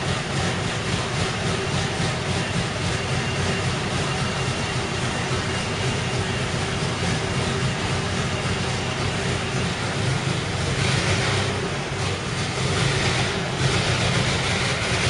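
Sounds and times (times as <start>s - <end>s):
engine idling with low rumble: 0.0s - 15.0s.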